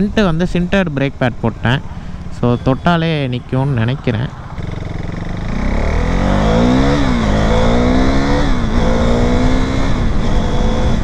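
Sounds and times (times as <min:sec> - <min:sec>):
wind and road rush: 0:00.0 - 0:11.0
motorcycle engine accelerating: 0:01.4 - 0:11.0.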